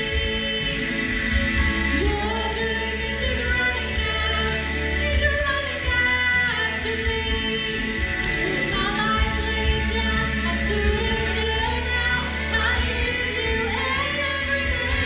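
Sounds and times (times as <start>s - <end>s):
steady low bass: 0.0s - 15.0s
woman and man singing: 0.0s - 15.0s.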